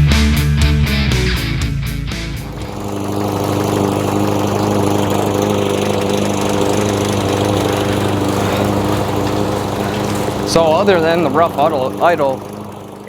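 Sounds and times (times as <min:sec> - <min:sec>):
lawn mower engine running: 0:00.8 - 0:13.0.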